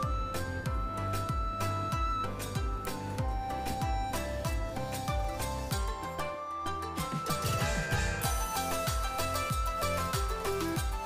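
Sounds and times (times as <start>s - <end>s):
kick drum beat: 0.0s - 6.1s, 7.1s - 11.0s
held melody notes: 0.0s - 11.0s.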